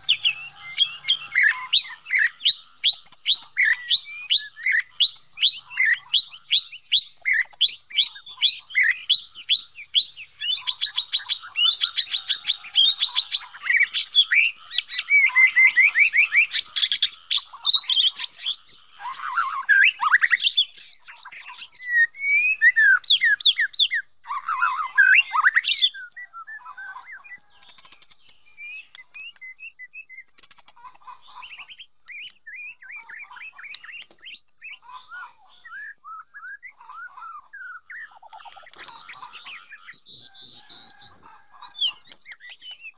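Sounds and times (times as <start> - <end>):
bird calling and singing: 0.0 - 42.9.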